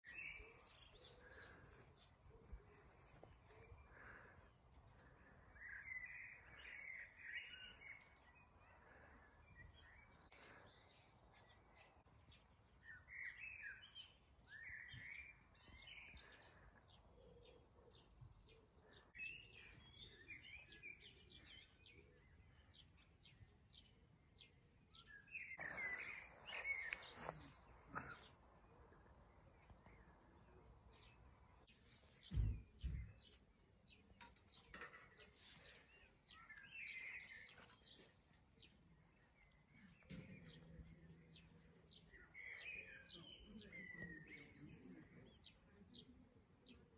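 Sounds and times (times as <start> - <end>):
small birds chirping and twittering: 0.0 - 46.9.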